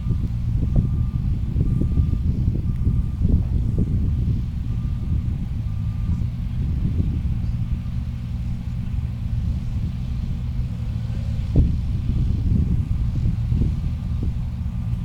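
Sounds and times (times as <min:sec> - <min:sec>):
rally car engine idling: 0:00.0 - 0:15.0.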